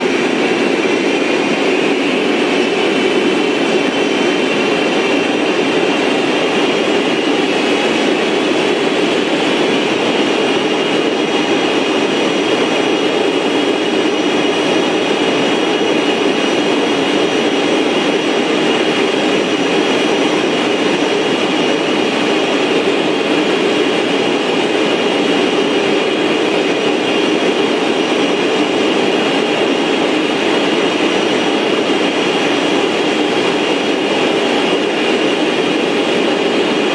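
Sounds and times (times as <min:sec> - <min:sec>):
aircraft engines and airflow: 0:00.0 - 0:36.9
high steady whining tones: 0:00.0 - 0:36.9.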